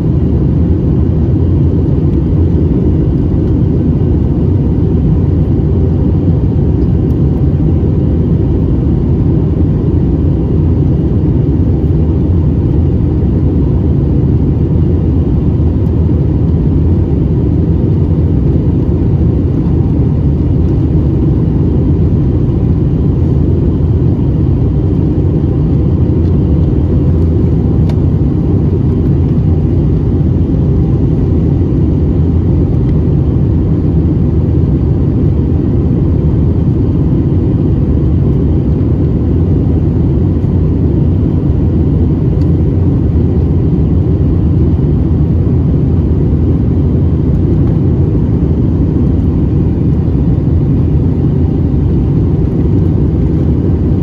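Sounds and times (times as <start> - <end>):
faint steady whine: 0.0 - 54.0
jet engine cabin rumble: 0.0 - 54.0.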